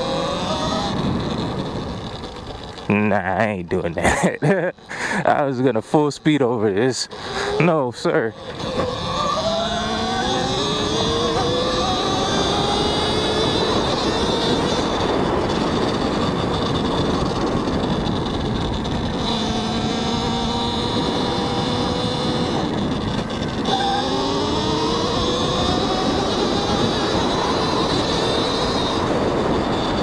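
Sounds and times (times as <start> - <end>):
wind noise on microphone: 0.0 - 3.7, 8.4 - 30.0
electric dirt bike motor whining: 0.0 - 30.0
tyre noise: 0.0 - 30.0.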